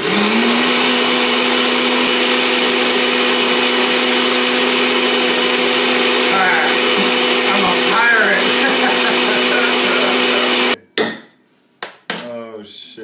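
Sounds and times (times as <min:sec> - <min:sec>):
blender running: 0:00.0 - 0:10.8.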